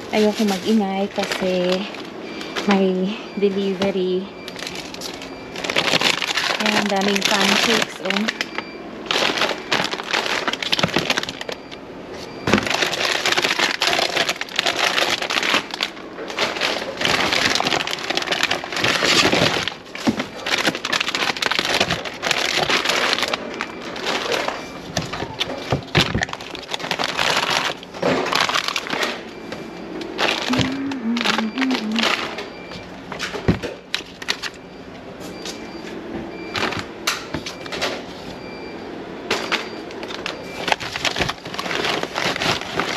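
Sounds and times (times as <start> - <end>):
plastic wrappers crinkling: 0.0 - 34.6, 36.5 - 38.1, 39.3 - 42.9.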